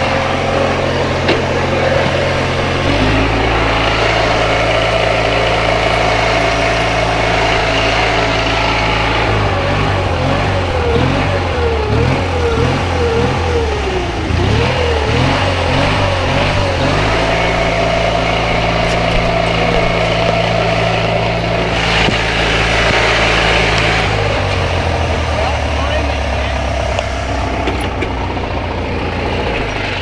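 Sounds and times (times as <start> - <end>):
riding lawn mower engine running: 0.0 - 30.0.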